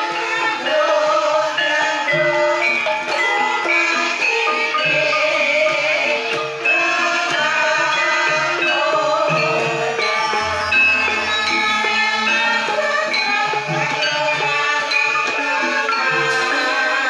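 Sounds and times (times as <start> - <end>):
gamelan ensemble playing: 0.0 - 17.0.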